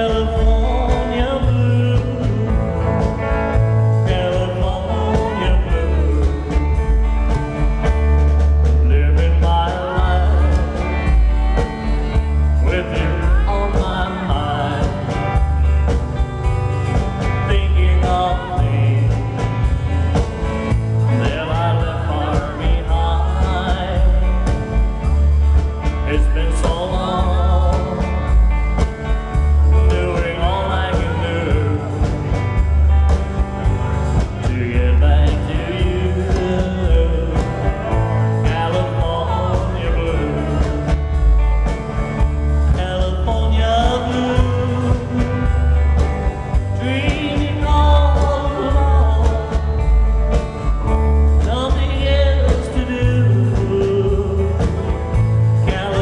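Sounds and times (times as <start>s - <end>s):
deep bass line: 0.0s - 56.0s
guitar playing: 0.0s - 56.0s
man singing: 0.0s - 56.0s.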